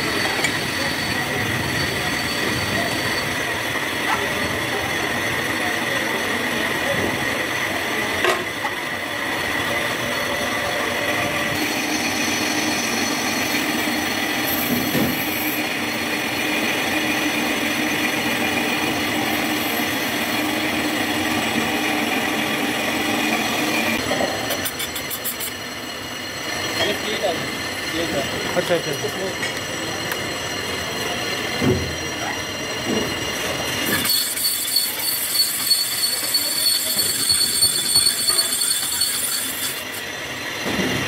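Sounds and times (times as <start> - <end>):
metal lathe running: 0.0 - 41.0.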